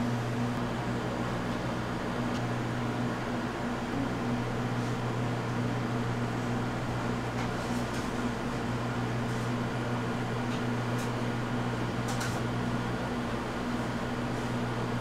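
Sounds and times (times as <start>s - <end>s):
electrical machine hum: 0.0s - 15.0s.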